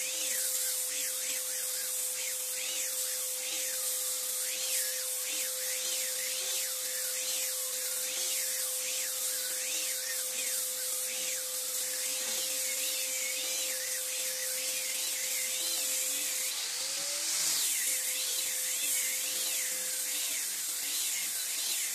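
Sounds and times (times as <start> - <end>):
electric disc sander on wood: 0.0 - 21.9.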